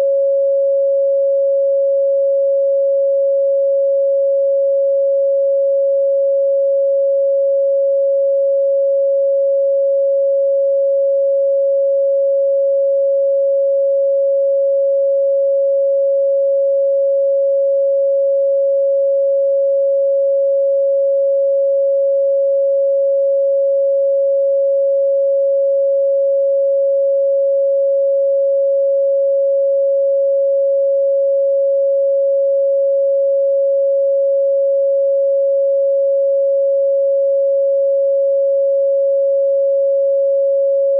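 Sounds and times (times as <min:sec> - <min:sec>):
steady sine tone: 0:00.0 - 0:40.9.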